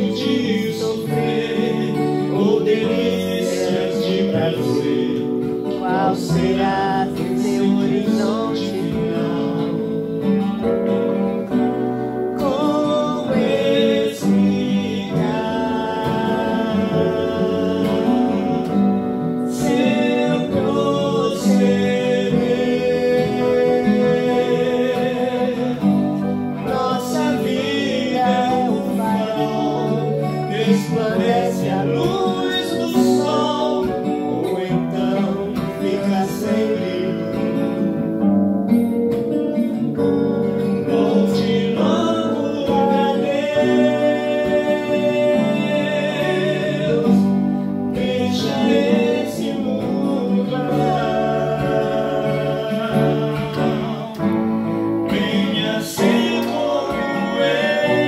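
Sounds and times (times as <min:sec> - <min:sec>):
person singing gospel song: 0:00.0 - 0:38.2, 0:39.7 - 0:58.0
acoustic guitar: 0:00.0 - 0:58.0
keyboard: 0:00.0 - 0:58.0.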